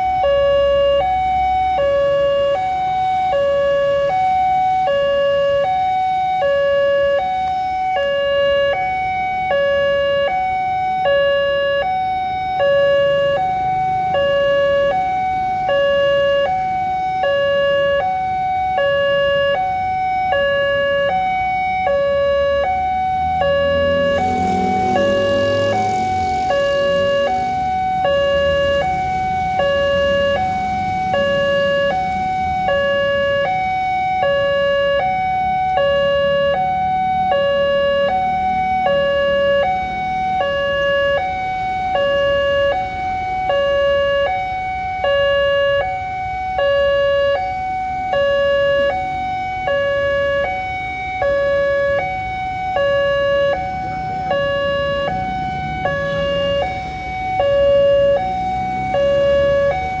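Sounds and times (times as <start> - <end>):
two-tone crossing alarm: 0.0 - 60.0.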